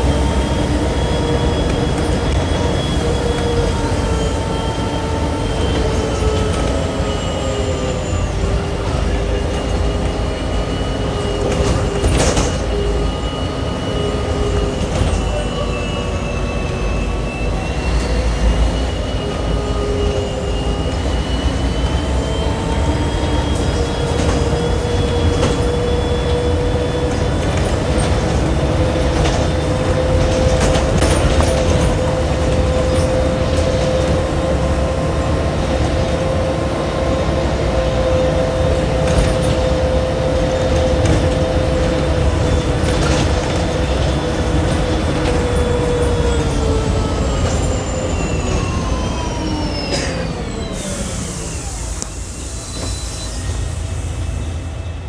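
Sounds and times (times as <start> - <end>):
bus engine drone and whine: 0.0 - 55.0.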